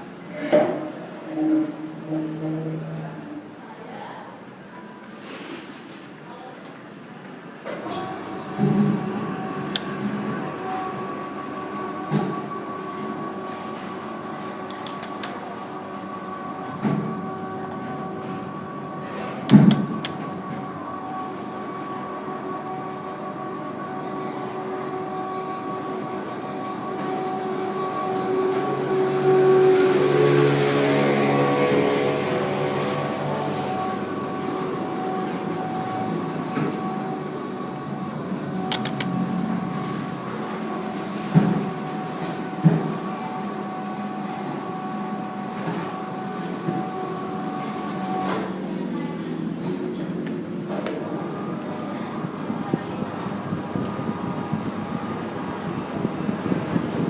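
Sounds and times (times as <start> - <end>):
ceiling fan whine: 0.0 - 57.0.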